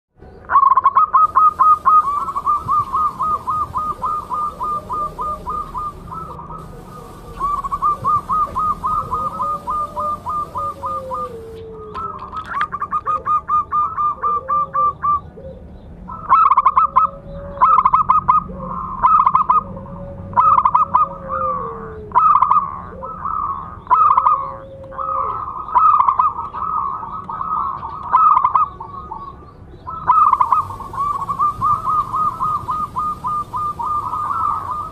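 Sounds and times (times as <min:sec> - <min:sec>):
doves cooing: 0:00.5 - 0:34.9.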